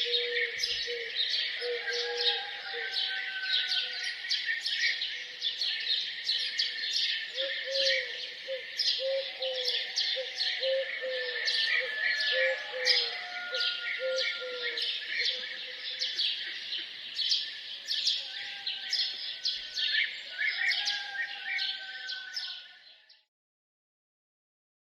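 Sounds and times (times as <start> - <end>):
songbirds chirping and singing: 0.0 - 23.3.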